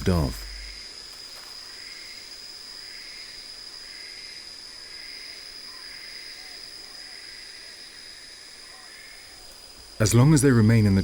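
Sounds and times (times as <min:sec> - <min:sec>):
insect chirps: 0:00.0 - 0:11.0
insects high-pitched buzz: 0:00.0 - 0:11.0.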